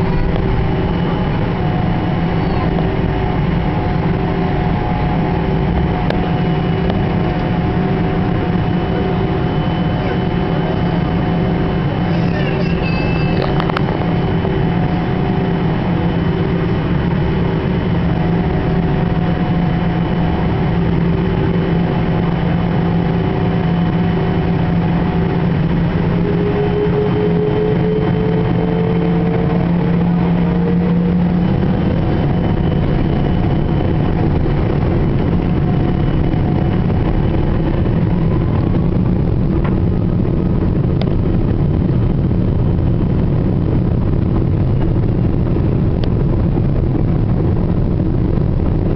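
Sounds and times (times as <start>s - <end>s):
held engine tones: 0.0s - 48.9s
jet engine cabin rumble: 0.0s - 48.9s.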